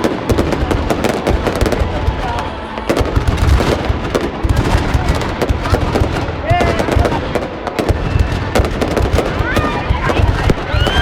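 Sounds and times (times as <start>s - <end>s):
fireworks cracks and booms: 0.0s - 11.0s.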